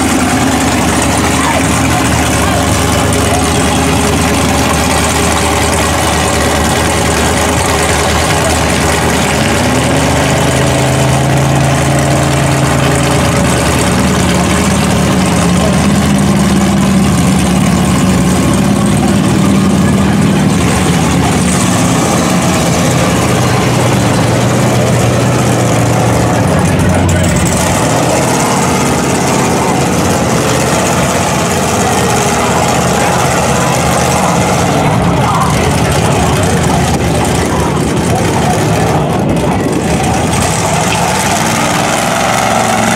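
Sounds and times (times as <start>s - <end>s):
engine idling and revving: 0.0s - 42.9s.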